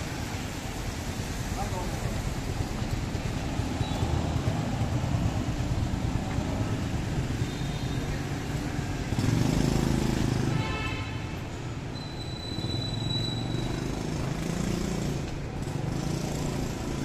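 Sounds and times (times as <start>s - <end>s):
passing motor vehicles: 0.0s - 17.0s.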